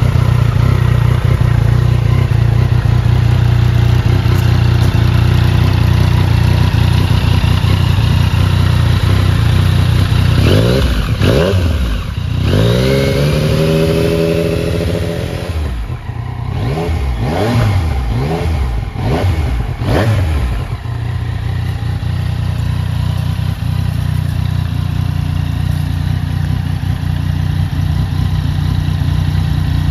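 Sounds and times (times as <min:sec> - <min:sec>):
motorcycle engine idling and revving: 0:00.0 - 0:29.9.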